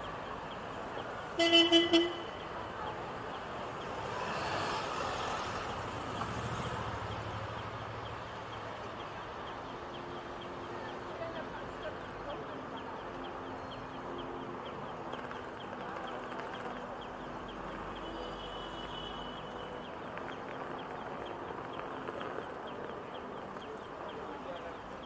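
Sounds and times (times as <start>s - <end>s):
crossing signal ticking rapidly: 0.0s - 25.0s
crowd noise: 0.0s - 25.0s
passing traffic: 0.0s - 25.0s.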